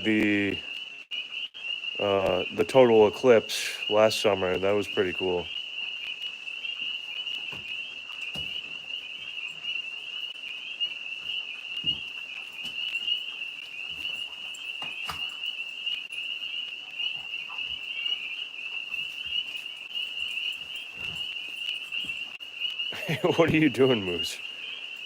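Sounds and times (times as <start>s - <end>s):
tree frogs trilling: 0.0s - 25.0s.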